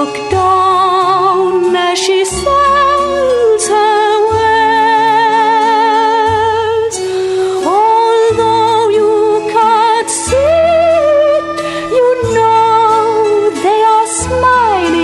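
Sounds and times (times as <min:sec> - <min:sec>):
held accompaniment notes: 0:00.0 - 0:15.0
high voice singing with vibrato: 0:00.0 - 0:15.0.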